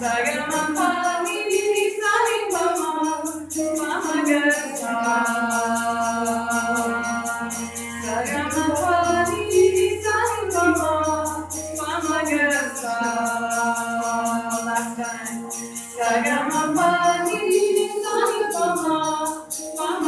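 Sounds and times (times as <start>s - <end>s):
hand percussion beat: 0.0s - 20.0s
sitar: 0.0s - 20.0s.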